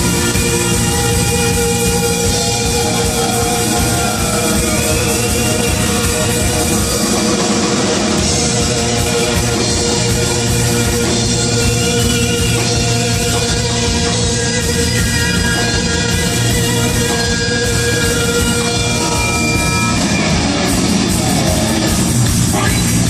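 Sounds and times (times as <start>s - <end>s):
live band playing instrumental music: 0.0s - 23.0s.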